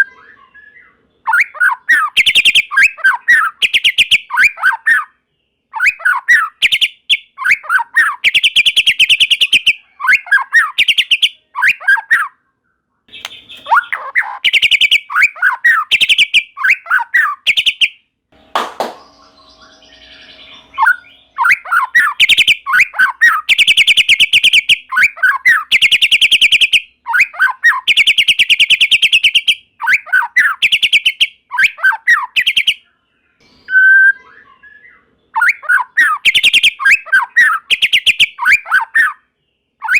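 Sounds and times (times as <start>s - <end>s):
songbird trills and whistles: 0.0s - 5.1s, 5.7s - 12.4s, 13.1s - 18.0s, 18.9s - 39.2s.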